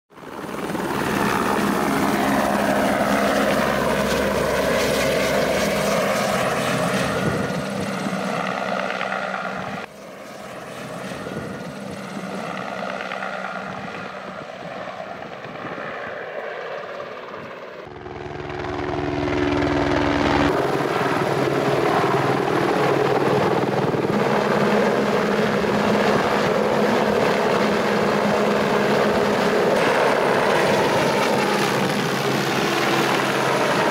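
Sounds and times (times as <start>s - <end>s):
helicopter turbine and rotor: 0.1s - 33.9s.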